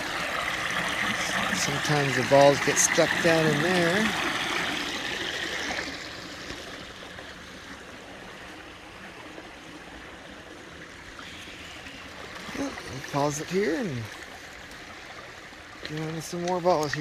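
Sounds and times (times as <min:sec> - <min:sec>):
creek water over small waterfalls: 0:00.0 - 0:17.0.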